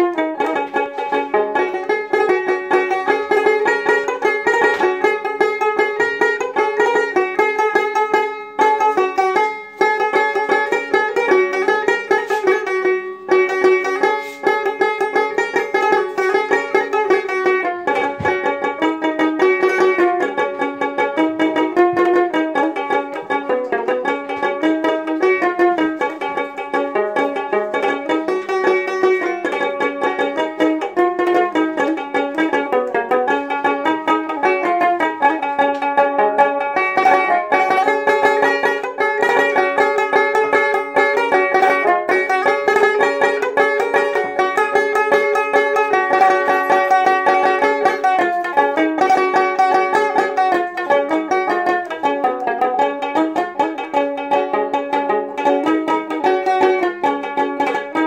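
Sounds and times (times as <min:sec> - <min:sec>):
plucked lute melody: 0:00.0 - 0:58.0.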